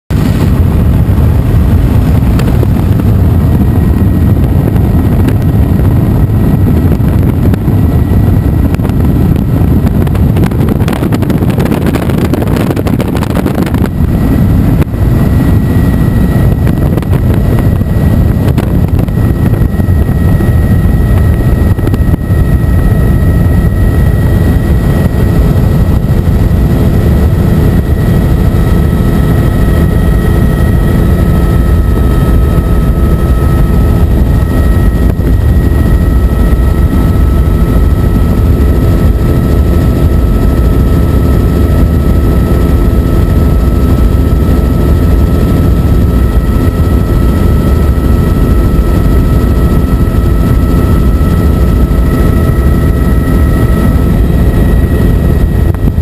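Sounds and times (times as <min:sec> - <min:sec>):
faint steady whine: 0:00.1 - 0:56.0
helicopter engine and rotor drone: 0:00.1 - 0:56.0.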